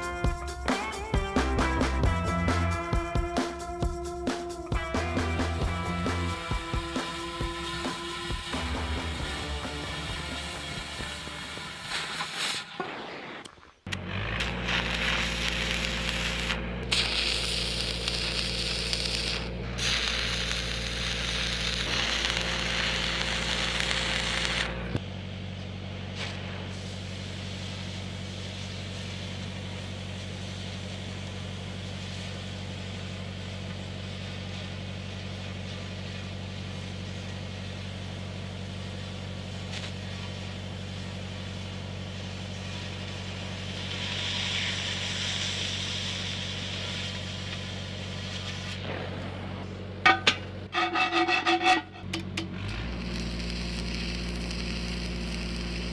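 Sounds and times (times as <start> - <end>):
welder engine running: 0.0 - 12.8, 13.9 - 55.9
welding arc crackling and hissing: 0.0 - 25.0, 26.2 - 49.2, 52.6 - 55.9.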